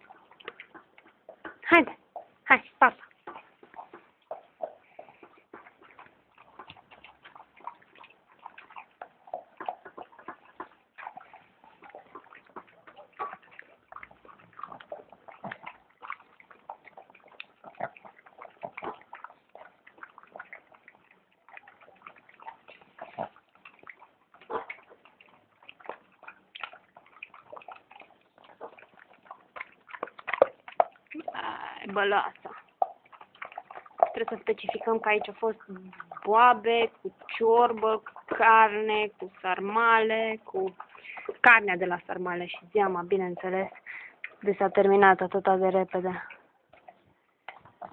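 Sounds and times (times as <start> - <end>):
dog chewing and lapping food: 0.0 - 47.9.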